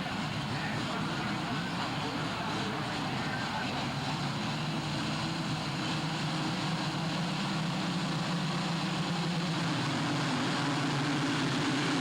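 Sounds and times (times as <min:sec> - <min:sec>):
motocross bikes engine drone: 0:00.0 - 0:12.0.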